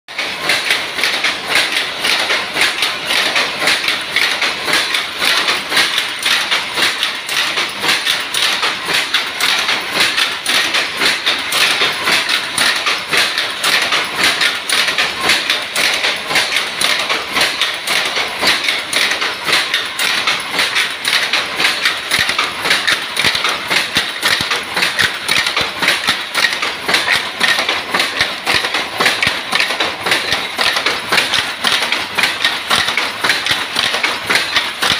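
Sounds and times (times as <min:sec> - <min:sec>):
power loom clattering: 0:00.1 - 0:34.9.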